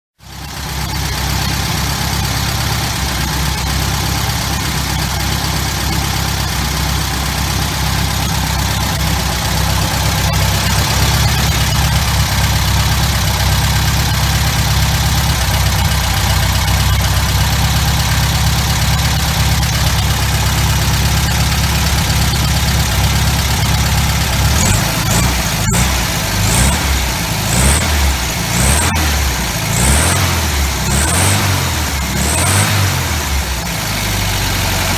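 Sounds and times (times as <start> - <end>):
old engine idling: 0.2 - 34.9.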